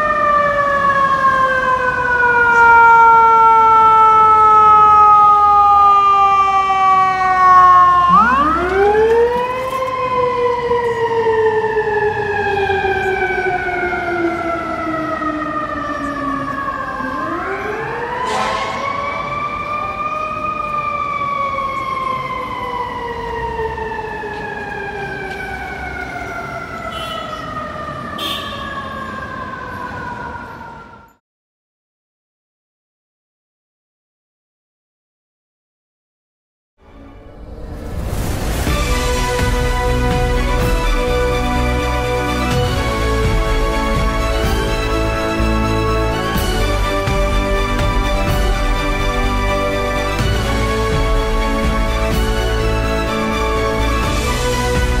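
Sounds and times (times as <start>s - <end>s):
fire engine siren: 0.0s - 31.2s, 37.1s - 55.0s.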